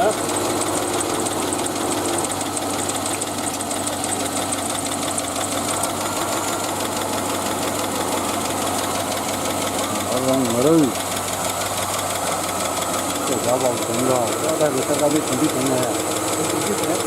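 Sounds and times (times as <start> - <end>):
car engine idling: 0.0 - 17.0
fast even ticking: 0.0 - 17.0.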